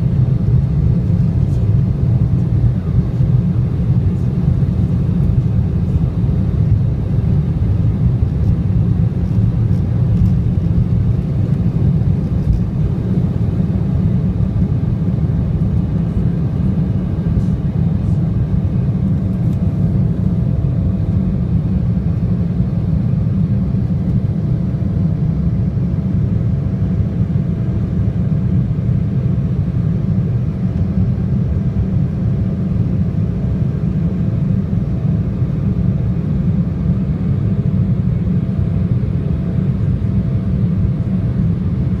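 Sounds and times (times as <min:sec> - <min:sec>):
airliner engines rumbling: 0:00.0 - 0:42.0.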